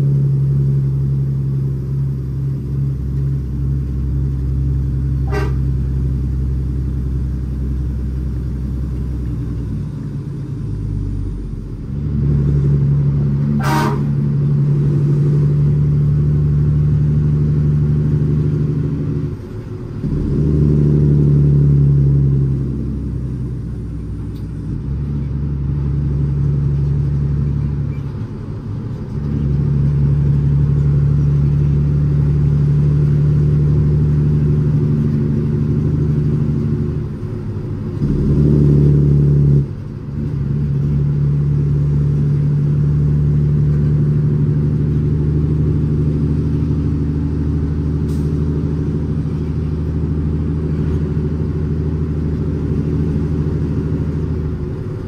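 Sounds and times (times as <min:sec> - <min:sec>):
diesel truck engine pulling under load: 0:00.0 - 0:55.0.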